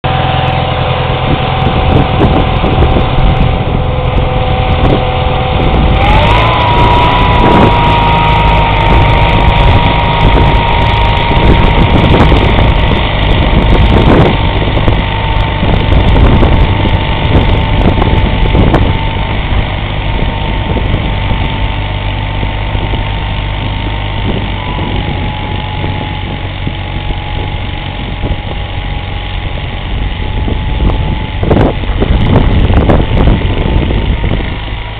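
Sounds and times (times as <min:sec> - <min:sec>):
garden tractor engine running: 0:00.0 - 0:34.9
loud rumbling noise: 0:00.0 - 0:34.9
steady whine: 0:00.0 - 0:34.9.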